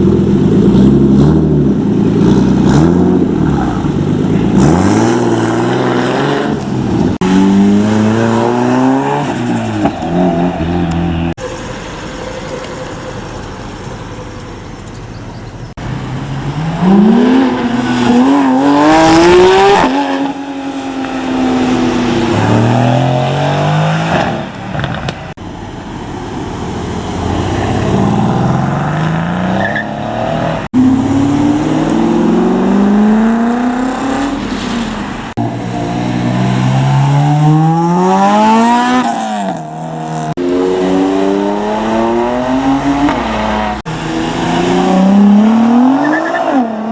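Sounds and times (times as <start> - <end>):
car engines revving hard: 0.0 - 11.5, 14.4 - 46.9.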